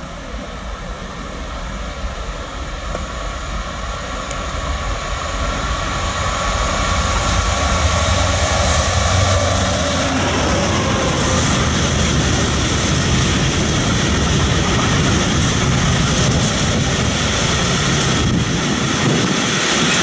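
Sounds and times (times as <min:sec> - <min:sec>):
diesel locomotive engine: 0:00.0 - 0:20.0
steady whine: 0:00.0 - 0:20.0.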